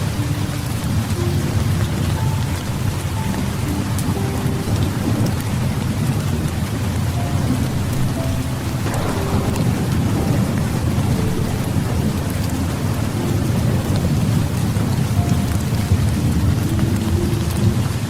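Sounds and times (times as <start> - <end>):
heavy rain: 0.0 - 18.0
low rumble of thunder: 0.0 - 18.0.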